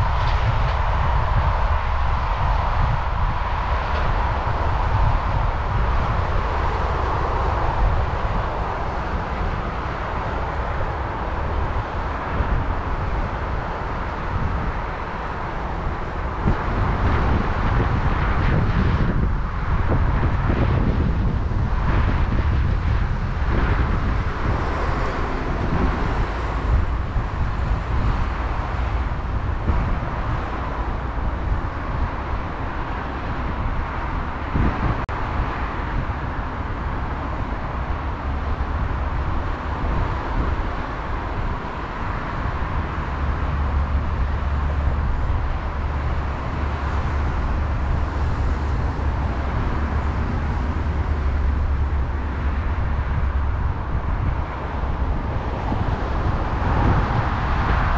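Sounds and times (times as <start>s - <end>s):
low rumble of distant traffic: 0.0s - 57.9s
wind hiss on microphone: 0.0s - 57.9s.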